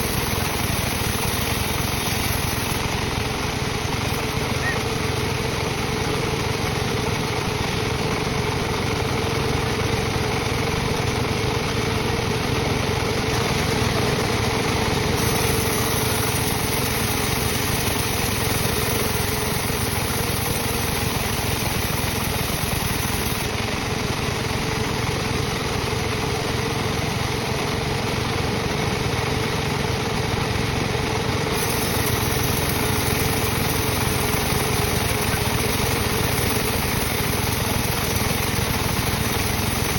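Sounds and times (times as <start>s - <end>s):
sawmill machinery motor drone: 0.0s - 39.9s.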